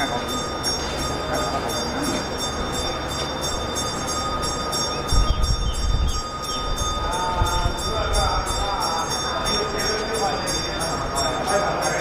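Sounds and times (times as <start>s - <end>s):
mechanical drone with whining tones: 0.0s - 11.8s.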